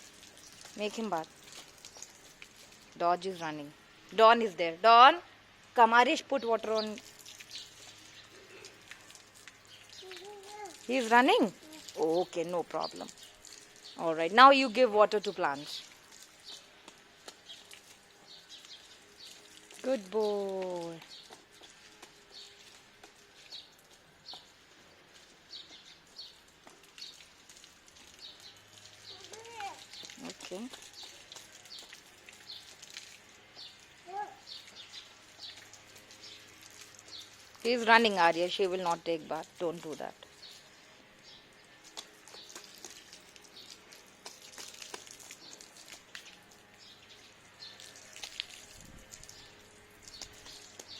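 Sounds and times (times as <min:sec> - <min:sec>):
small birds chirping: 0:06.3 - 0:14.2, 0:15.2 - 0:38.1, 0:40.2 - 0:50.9.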